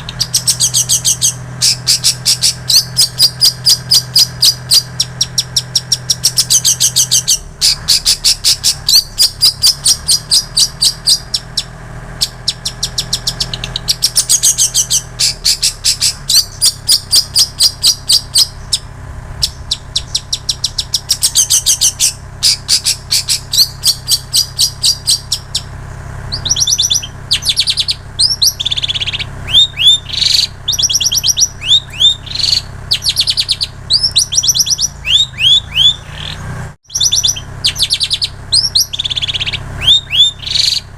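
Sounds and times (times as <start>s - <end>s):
bird singing trills and whistles: 0.0s - 40.9s.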